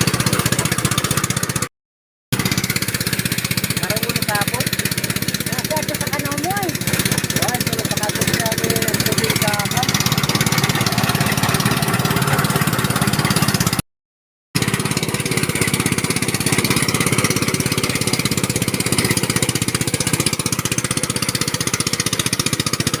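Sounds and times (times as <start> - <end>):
small engine running: 0.0 - 1.7, 2.3 - 13.8, 14.6 - 23.0.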